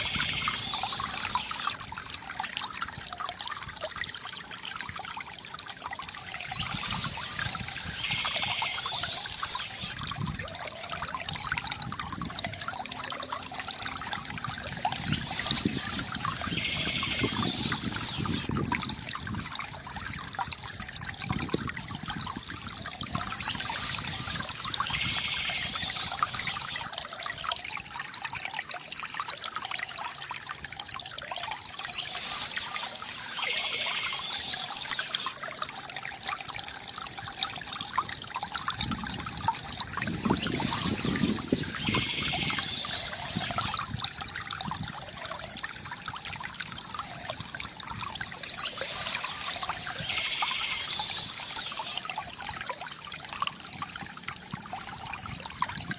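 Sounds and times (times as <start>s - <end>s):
stream trickling and splashing: 0.0s - 55.9s
water gurgle: 0.0s - 55.9s.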